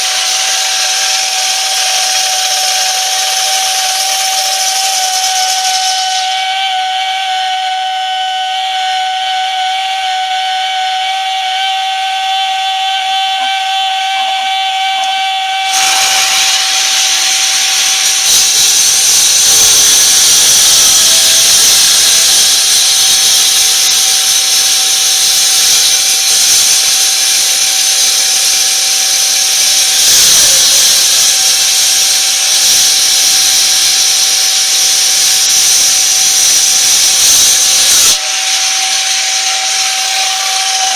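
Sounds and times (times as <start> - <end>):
electric concrete saw running: 0.0 - 40.9
pump running with high-pitched whine: 0.0 - 40.9.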